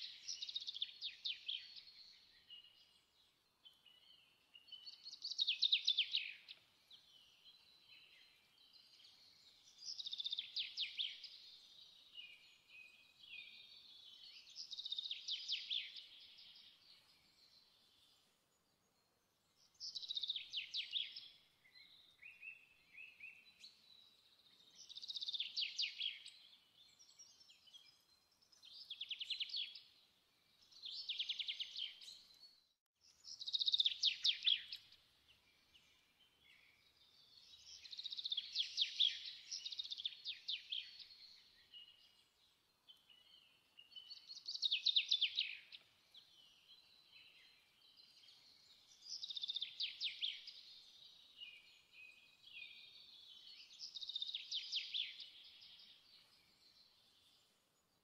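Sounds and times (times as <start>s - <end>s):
soft bird twittering: 0.0s - 18.7s, 19.5s - 57.6s.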